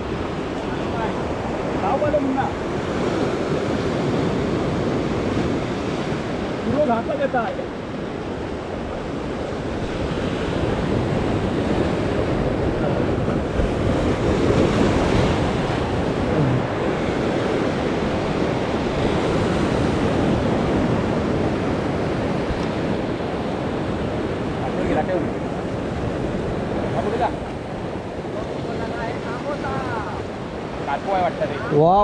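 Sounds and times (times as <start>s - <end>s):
waves breaking on rocks: 0.0s - 32.0s
wind buffeting microphone: 0.0s - 32.0s.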